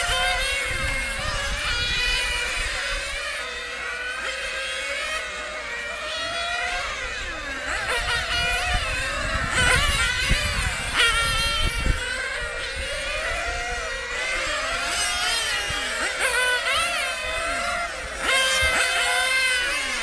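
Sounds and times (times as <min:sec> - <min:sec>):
radio-controlled cars engines whining: 0:00.0 - 0:20.0.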